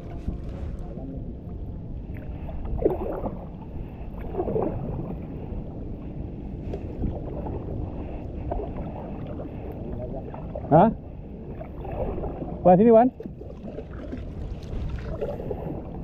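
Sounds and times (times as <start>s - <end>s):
low rumble: 0.0s - 16.0s
water lapping against kayak hull: 0.0s - 16.0s
water splashes: 2.0s - 16.0s.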